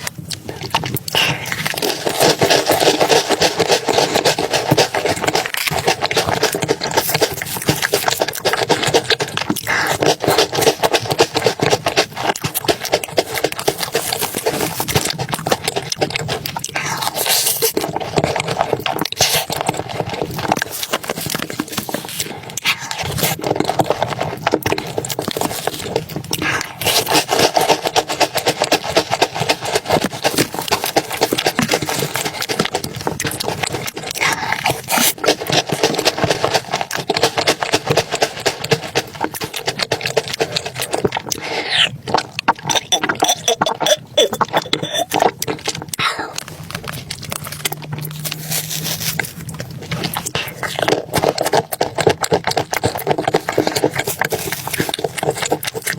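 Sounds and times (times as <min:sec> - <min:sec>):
wet mouth eating sounds: 0:00.0 - 0:55.9.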